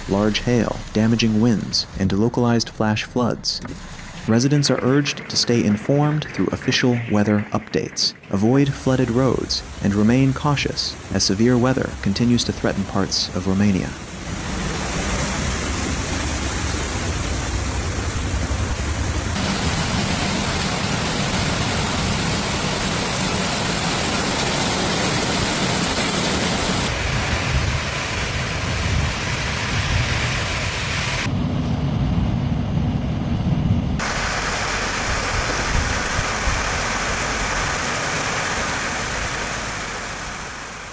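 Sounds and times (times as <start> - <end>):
heavy rain and storm: 0.0 - 2.2, 3.6 - 40.9.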